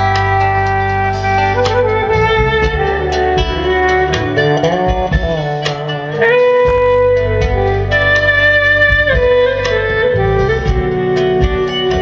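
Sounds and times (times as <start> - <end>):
clarinet melody: 0.0 - 12.0.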